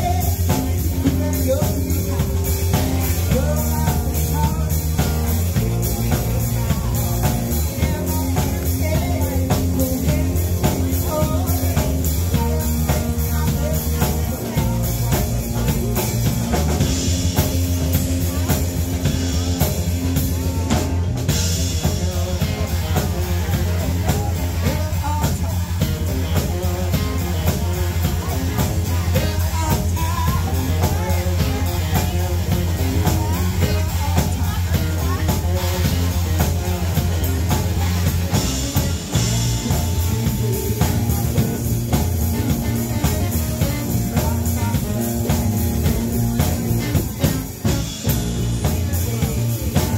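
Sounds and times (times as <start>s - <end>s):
drum kit: 0.0s - 49.9s
electric bass: 0.0s - 49.9s
electric guitar: 0.0s - 49.9s.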